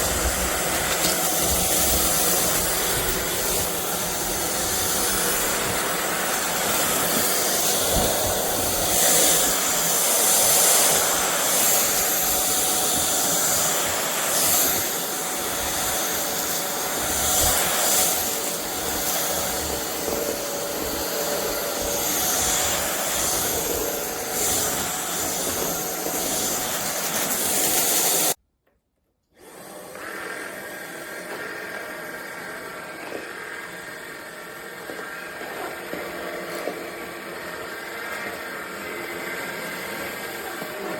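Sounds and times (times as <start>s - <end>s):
stick vacuum running: 0.0s - 28.4s, 29.4s - 40.9s.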